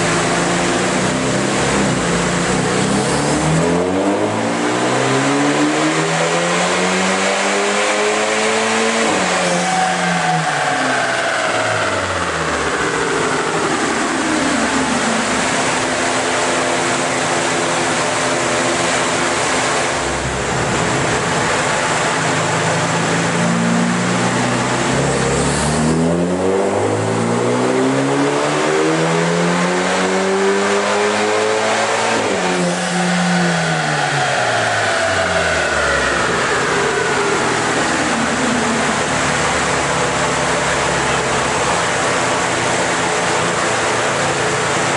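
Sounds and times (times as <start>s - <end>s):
car engine revving: 0.0s - 44.9s
dyno rollers and tyres rushing: 7.2s - 44.9s.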